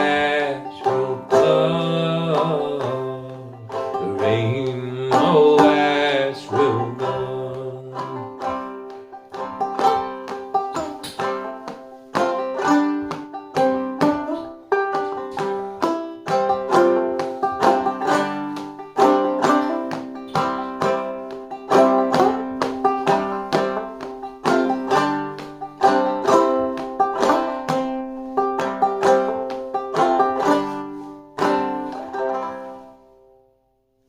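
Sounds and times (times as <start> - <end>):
banjo playing: 0.0 - 33.5.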